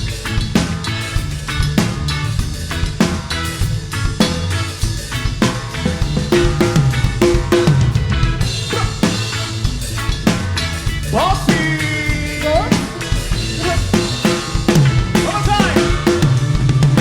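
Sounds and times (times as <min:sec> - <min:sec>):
bass line: 0:00.0 - 0:17.0
drum kit beat: 0:00.0 - 0:17.0
reggae band playing: 0:00.0 - 0:17.0.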